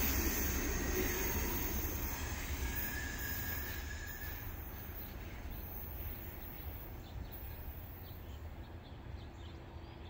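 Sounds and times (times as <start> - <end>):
freight train rumble: 0.0 - 10.0.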